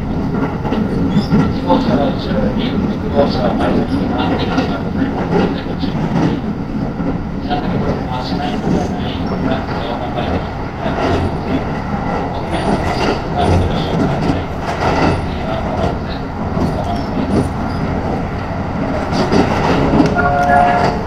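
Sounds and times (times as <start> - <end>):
train cabin rumble: 0.0 - 21.0
wheels clicking on track: 0.1 - 21.0.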